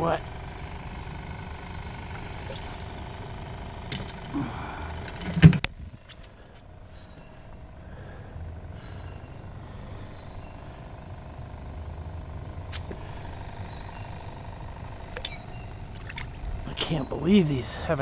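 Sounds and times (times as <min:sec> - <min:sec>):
boat motor hum: 0:00.0 - 0:18.0.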